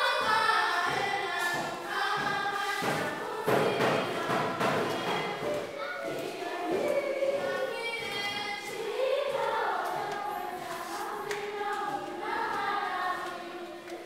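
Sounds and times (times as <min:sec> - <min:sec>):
girls choir singing: 0:00.0 - 0:14.0.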